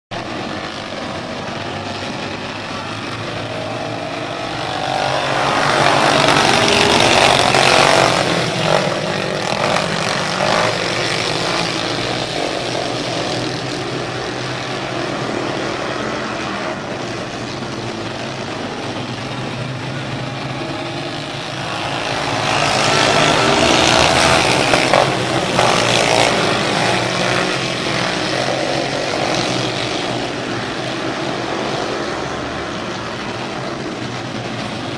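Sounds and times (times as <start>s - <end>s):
race car engines droning: 0.1s - 34.9s.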